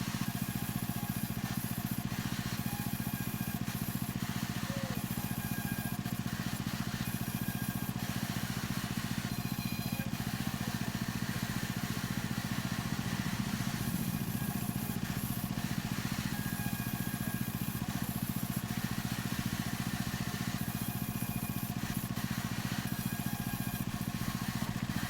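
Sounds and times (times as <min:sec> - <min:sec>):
machine motor pulsing: 0:02.3 - 0:25.0.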